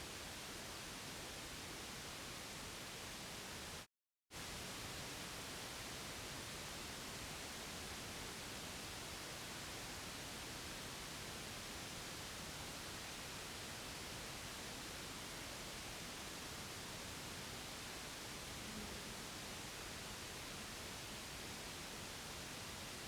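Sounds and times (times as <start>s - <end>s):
steady white noise hiss: 0.0s - 23.0s.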